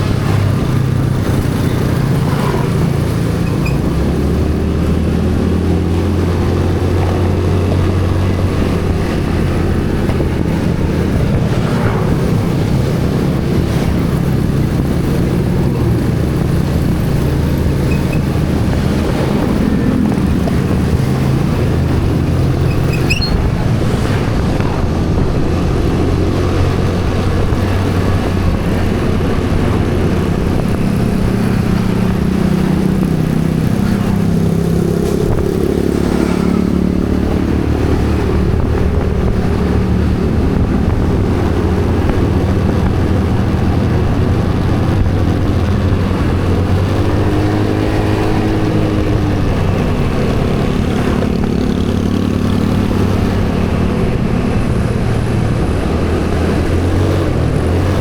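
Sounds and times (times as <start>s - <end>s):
vehicle engine running: 0.0s - 58.0s
wind noise on microphone: 0.0s - 58.0s.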